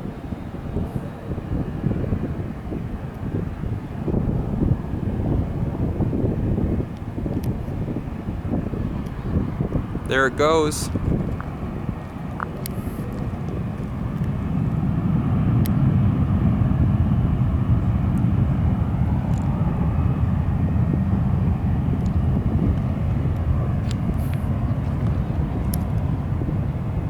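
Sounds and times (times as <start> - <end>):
airliner engines at takeoff: 0.0 - 27.0.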